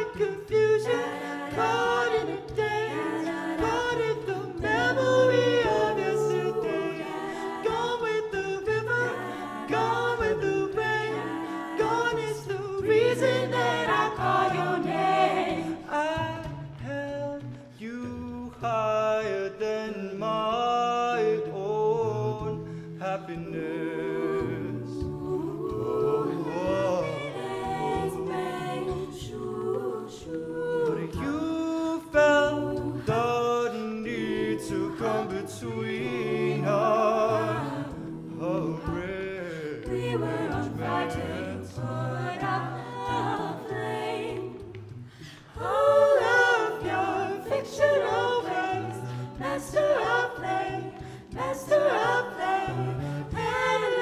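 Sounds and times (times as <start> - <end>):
group singing in close harmony: 0.0 - 17.5, 19.2 - 54.0.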